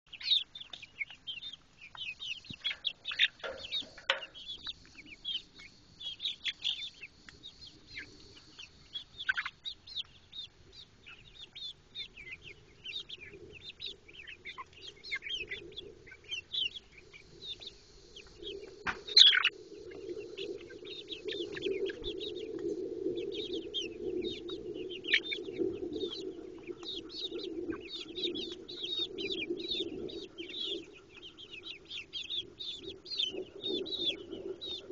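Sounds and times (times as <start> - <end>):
young hens chirping and peeping: 0.1 - 34.9.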